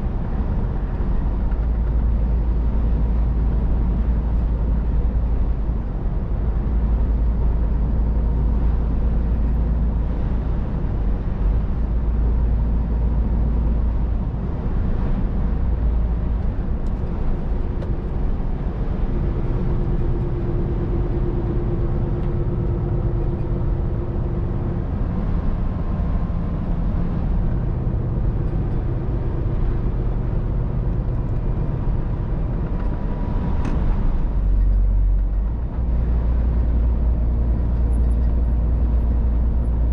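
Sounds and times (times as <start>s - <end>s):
road and tyre noise: 0.0s - 39.9s
truck engine drone: 0.0s - 39.9s.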